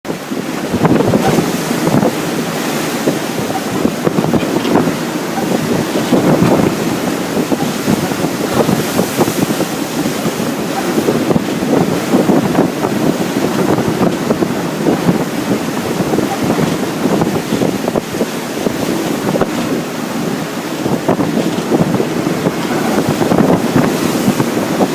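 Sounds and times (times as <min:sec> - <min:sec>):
rough sea water washing: 0:00.0 - 0:24.9
wind buffeting microphone: 0:00.0 - 0:24.9.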